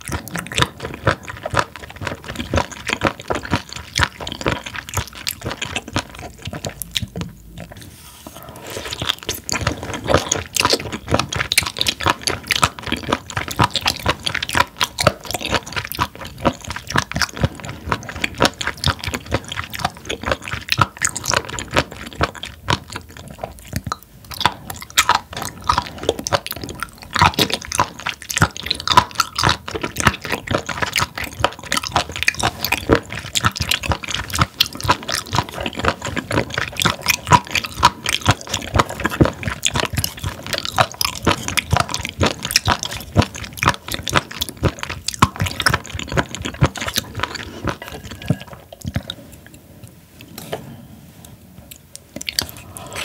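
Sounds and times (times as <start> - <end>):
close chewing crunchy mouth sounds: 0.0 - 53.0.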